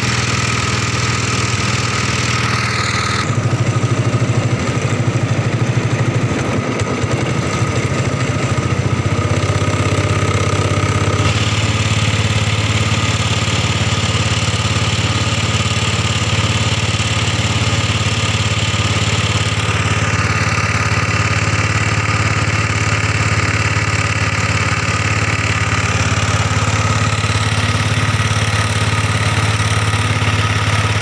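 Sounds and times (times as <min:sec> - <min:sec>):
boat motor running: 0:00.0 - 0:31.0.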